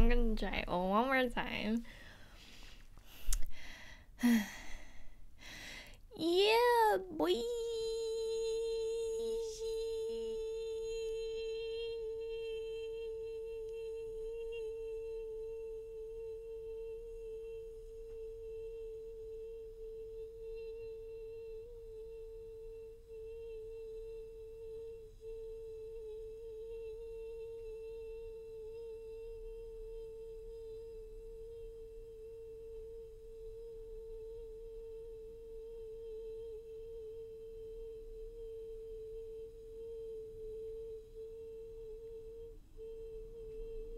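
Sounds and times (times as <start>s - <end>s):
high voice holding a sustained note: 0.0s - 1.8s, 6.1s - 43.9s.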